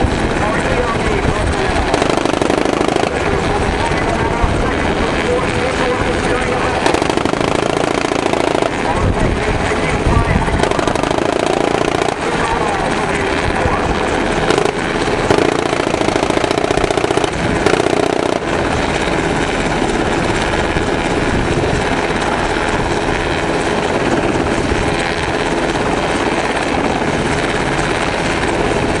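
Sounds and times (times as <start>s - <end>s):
helicopter rotor chop: 0.0s - 29.0s.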